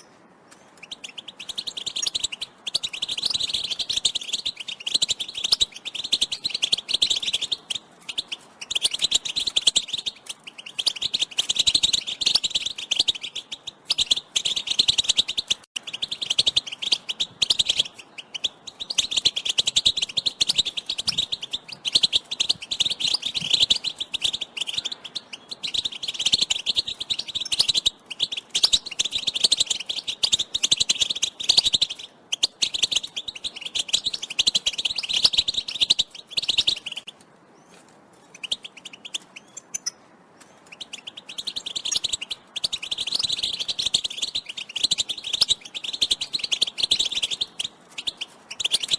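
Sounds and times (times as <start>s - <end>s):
goldfinch twittering: 0.8s - 37.1s, 40.6s - 48.9s.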